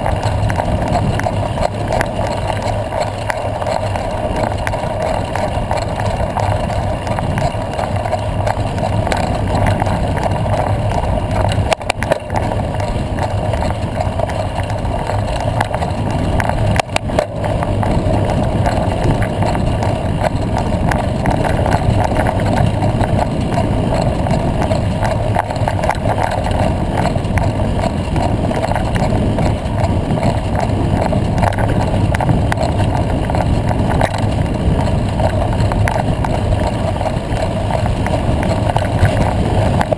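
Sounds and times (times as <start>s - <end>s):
bicycle rattling on dirt road: 0.0s - 39.9s
wind on microphone: 0.0s - 39.9s.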